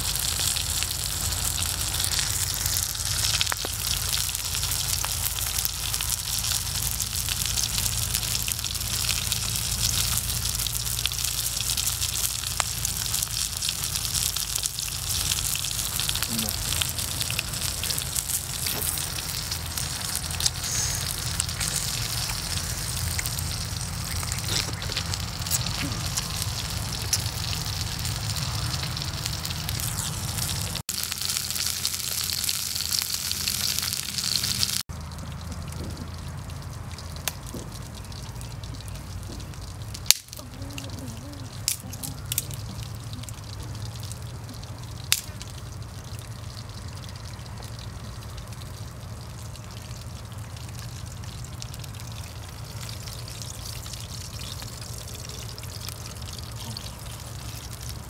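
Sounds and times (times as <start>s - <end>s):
fire crackling: 0.0s - 58.0s
fish sizzling on wood fire: 0.0s - 58.0s.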